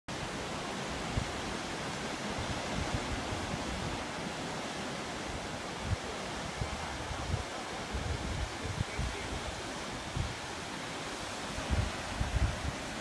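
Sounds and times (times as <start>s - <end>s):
surf washing onto rocky shore: 0.1s - 13.0s
wind buffeting microphone: 0.9s - 13.0s.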